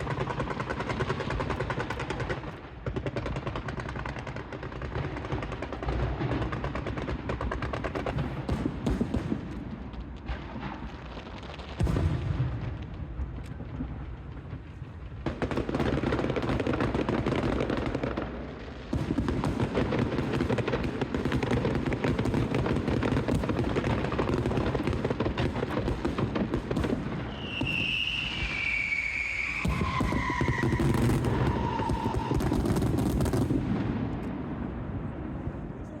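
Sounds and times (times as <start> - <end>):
firecrackers crackling: 0.0 - 35.8.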